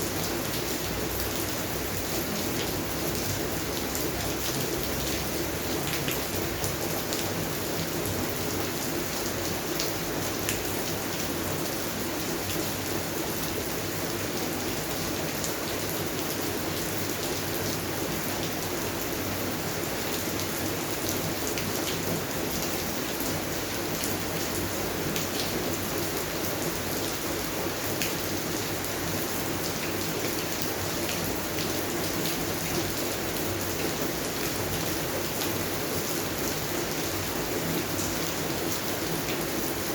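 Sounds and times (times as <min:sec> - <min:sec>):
rain falling on plants: 0:00.0 - 0:39.9.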